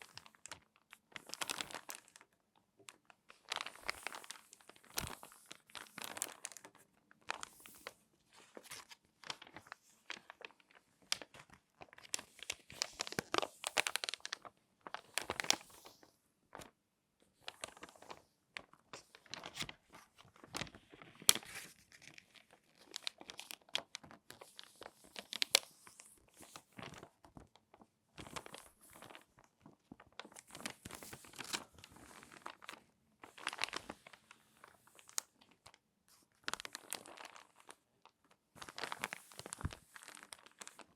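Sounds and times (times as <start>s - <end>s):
magazine pages crinkling: 0.0s - 2.3s, 2.9s - 16.7s, 17.4s - 40.9s.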